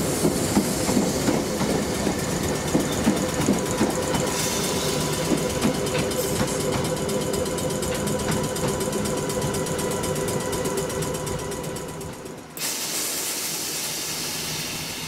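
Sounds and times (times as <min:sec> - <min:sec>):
electric train motor hum: 0:00.0 - 0:15.0.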